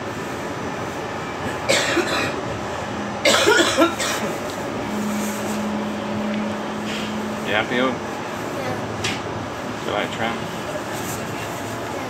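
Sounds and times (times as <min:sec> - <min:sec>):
steady low hum: 0:00.0 - 0:11.5
tram running noise: 0:00.0 - 0:12.0.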